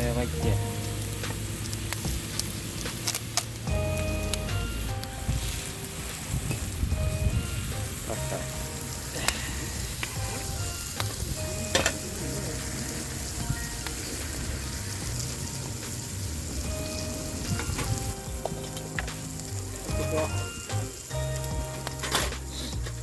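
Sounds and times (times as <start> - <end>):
food sizzling on a griddle: 0.0 - 23.0.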